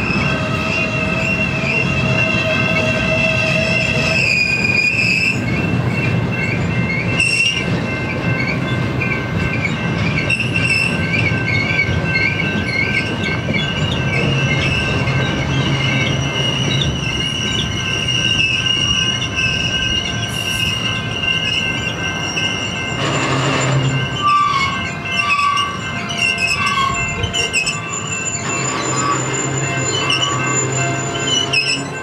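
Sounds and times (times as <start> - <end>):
low rumble of train cars: 0.0 - 32.0
wheels squealing on rail: 0.0 - 32.0.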